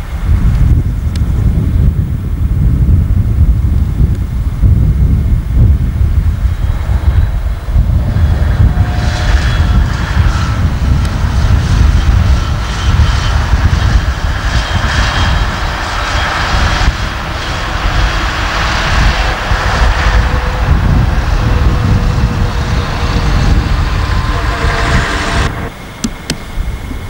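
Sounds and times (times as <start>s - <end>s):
aircraft engine drone: 0.0s - 27.0s
wind rumble on microphone: 0.0s - 27.0s.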